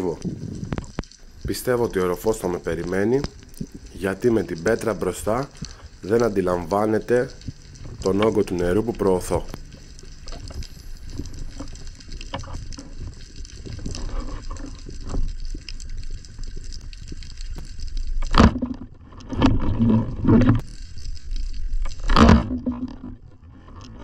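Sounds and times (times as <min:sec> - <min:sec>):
low underwater rumble: 0:00.0 - 0:24.0
rough low sounds: 0:00.0 - 0:24.0
water moving underwater: 0:00.0 - 0:24.0
small clicks: 0:00.2 - 0:01.8, 0:02.4 - 0:24.0.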